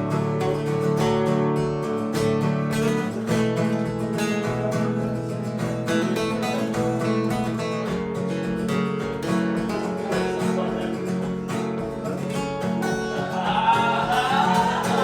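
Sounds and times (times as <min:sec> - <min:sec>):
pop song instrumental: 0:00.0 - 0:15.0
strummed acoustic guitar: 0:00.0 - 0:15.0.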